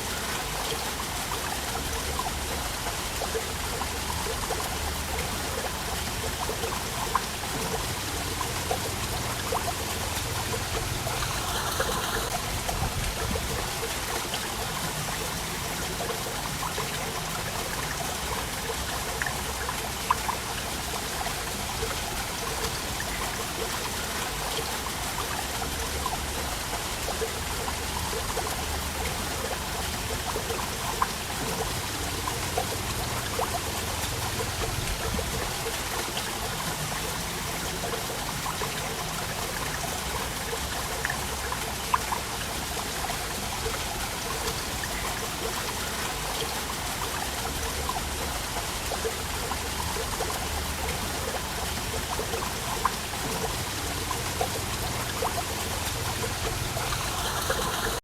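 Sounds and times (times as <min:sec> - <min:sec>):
water drips and splashes: 0:00.0 - 0:58.0
waterfall rushing: 0:00.0 - 0:58.0.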